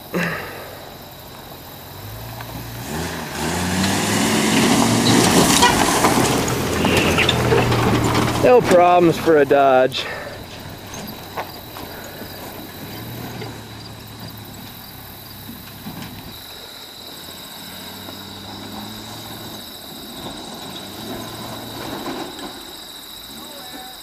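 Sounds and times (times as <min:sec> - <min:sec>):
high insect drone: 0:00.0 - 0:24.0
truck engine idling: 0:00.0 - 0:24.0.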